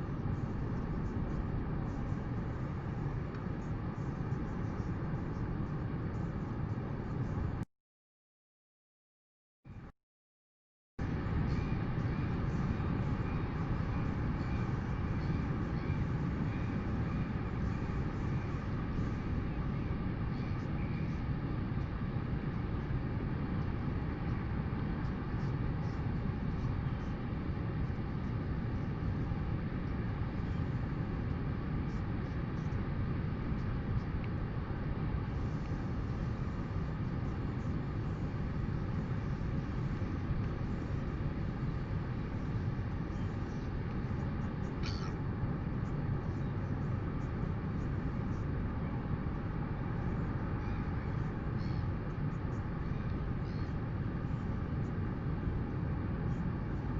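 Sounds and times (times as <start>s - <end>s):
wind rumbling on microphone: 11.0s - 56.9s.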